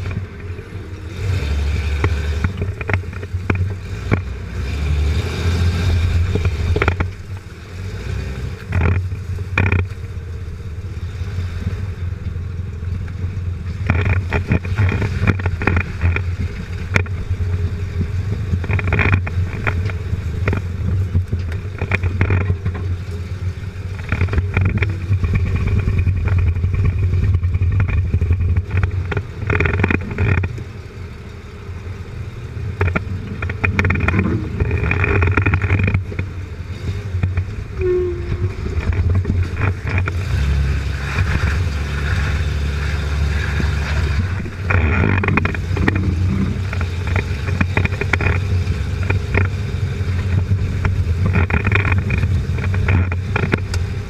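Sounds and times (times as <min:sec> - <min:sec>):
low engine drone: 0:00.0 - 0:54.0.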